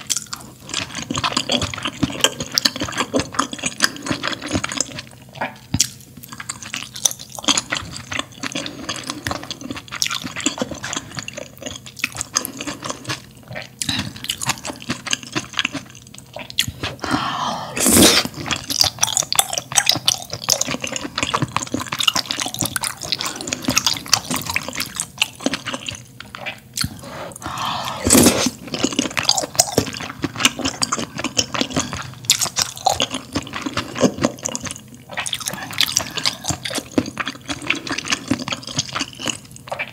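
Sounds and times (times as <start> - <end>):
chewing with wet mouth smacks: 0.0 - 17.0, 18.2 - 39.9.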